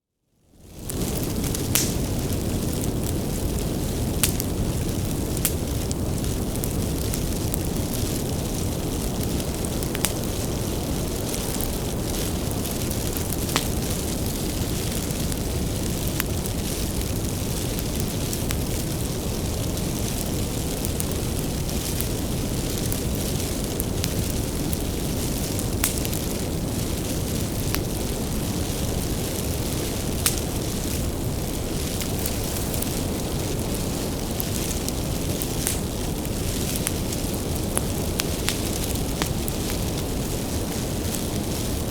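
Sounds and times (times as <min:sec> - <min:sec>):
bonfire flames rushing: 0:00.6 - 0:41.9
firewood crackling and popping: 0:00.6 - 0:41.9.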